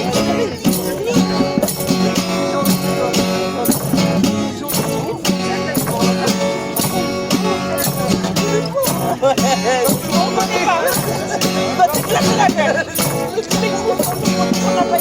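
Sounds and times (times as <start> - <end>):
music with steady beat: 0.0 - 15.0
plucked guitar: 0.0 - 15.0.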